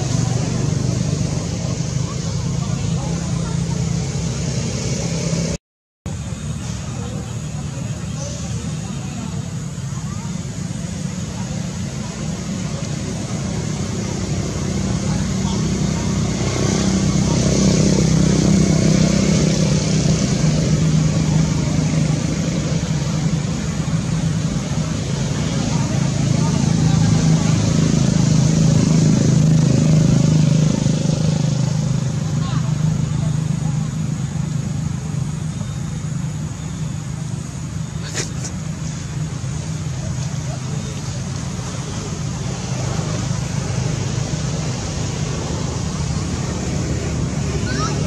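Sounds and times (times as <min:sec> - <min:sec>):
motor engine humming: 0:00.0 - 0:48.0.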